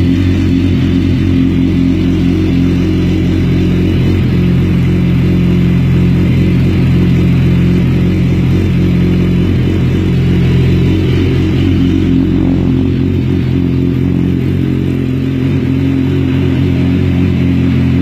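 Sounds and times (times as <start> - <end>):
motorcycle engine running steadily: 0.0 - 18.0.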